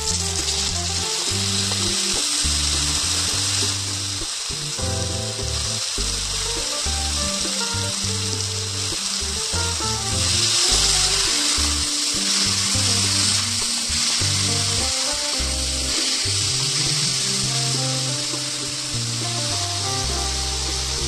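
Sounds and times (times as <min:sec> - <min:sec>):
background music: 0:00.0 - 0:21.0
onions sizzling in a pan: 0:00.0 - 0:21.0.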